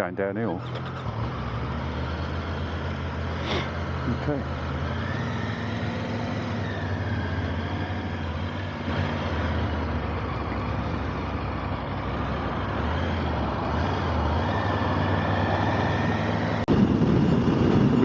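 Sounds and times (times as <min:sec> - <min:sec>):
motorcycle engine hum: 0:00.0 - 0:18.0
wind and road noise: 0:00.0 - 0:18.0.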